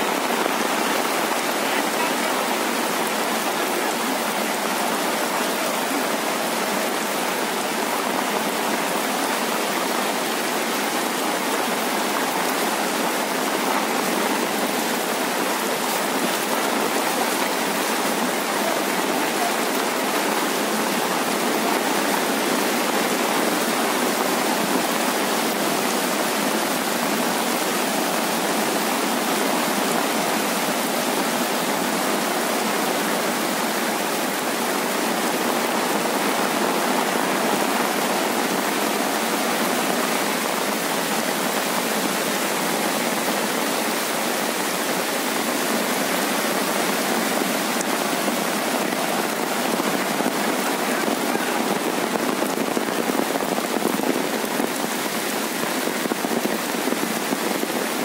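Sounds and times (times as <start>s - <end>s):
heavy rain falling: 0.0s - 58.0s
river rushing in flood: 0.0s - 58.0s.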